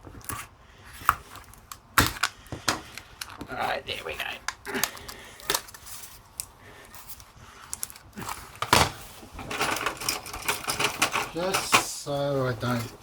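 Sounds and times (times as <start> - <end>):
clicks and scraping of casing: 0.0 - 11.9.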